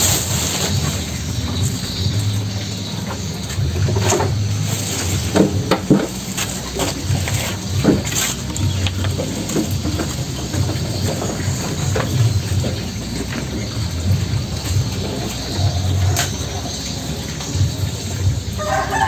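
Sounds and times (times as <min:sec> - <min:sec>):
knocks and clatters at trough: 0:01.5 - 0:18.4.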